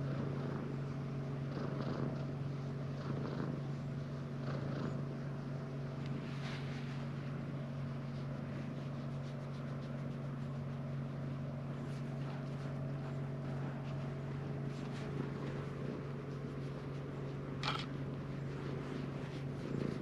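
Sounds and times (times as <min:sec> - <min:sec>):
cat purring: 0:00.0 - 0:07.5, 0:08.2 - 0:20.0.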